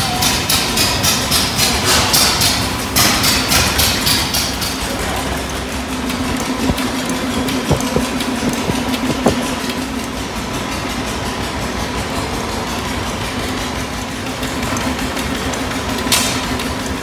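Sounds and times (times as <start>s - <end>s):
heavy machinery engine running: 0.0s - 17.0s
engine knocks: 0.3s - 17.0s.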